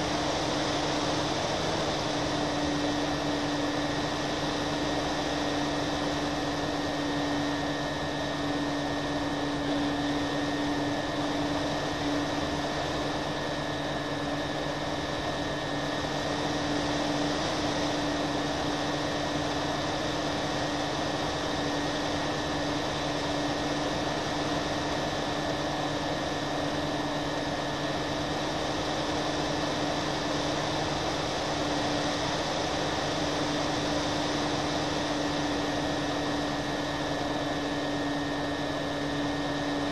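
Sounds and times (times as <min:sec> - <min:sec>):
model plane motors droning: 0:00.0 - 0:39.9.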